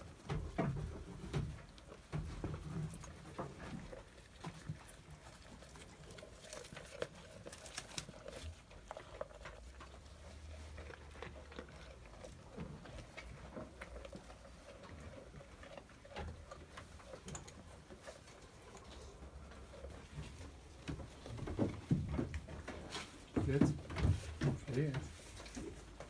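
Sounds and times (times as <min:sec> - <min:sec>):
goat munching: 0:00.0 - 0:26.0.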